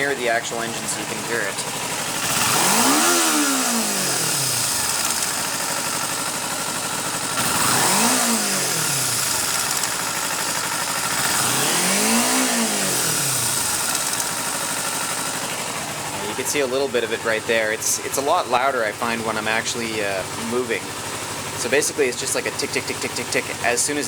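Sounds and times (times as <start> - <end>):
engine ticking: 0.0 - 24.0
motorcycle engine idling and revving: 0.0 - 24.0.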